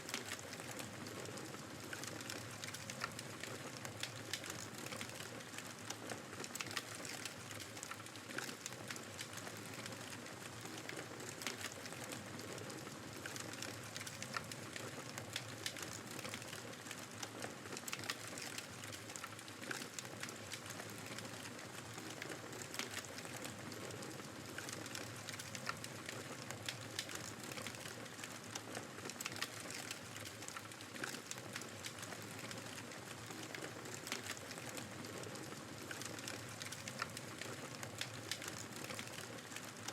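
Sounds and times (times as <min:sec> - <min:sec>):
fireplace crackling and popping: 0:00.0 - 0:39.9.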